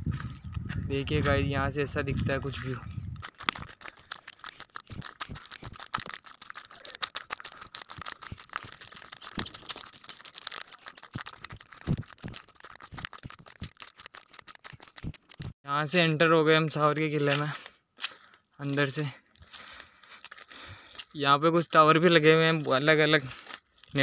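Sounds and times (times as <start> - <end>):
footsteps crunching on gravel: 0.0 - 15.6, 17.3 - 21.2.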